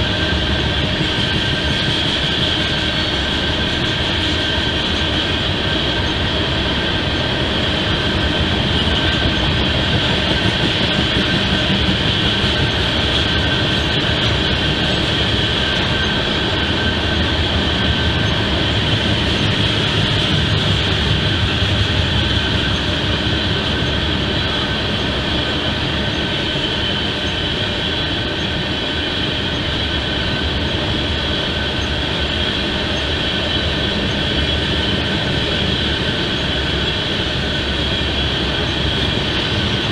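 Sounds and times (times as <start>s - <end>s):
high-pitched whine: 0.0s - 39.9s
rumble of wheels on rail: 0.0s - 39.9s.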